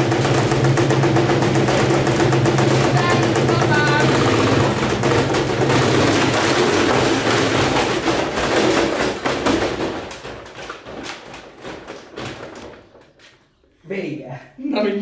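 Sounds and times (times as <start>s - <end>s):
washing machine banging and rattling: 0.0s - 13.2s.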